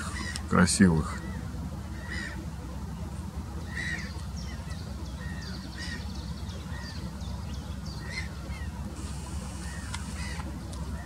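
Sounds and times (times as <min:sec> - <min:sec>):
gulls calling harshly: 0:00.0 - 0:11.0
low background noise: 0:00.0 - 0:11.0.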